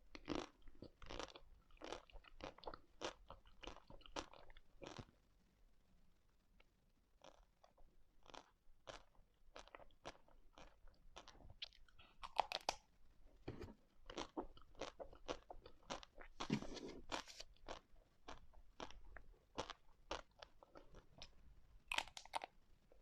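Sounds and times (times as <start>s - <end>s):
crunching and chewing ice cream: 0.1s - 5.2s, 7.2s - 12.9s, 14.0s - 23.0s.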